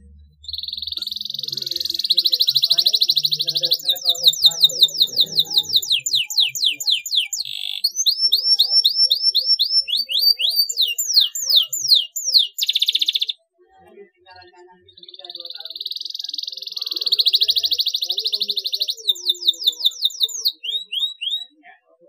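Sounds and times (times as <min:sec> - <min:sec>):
canary singing: 0:00.0 - 0:13.5, 0:14.1 - 0:21.6.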